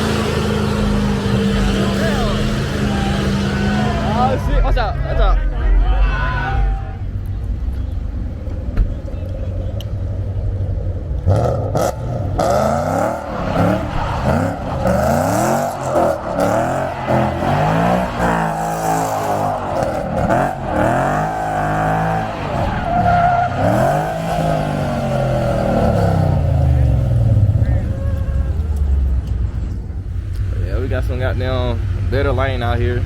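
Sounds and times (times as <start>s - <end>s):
car engine revving: 0.0s - 5.4s, 6.4s - 33.0s
tires squealing: 0.0s - 9.9s, 11.2s - 29.2s.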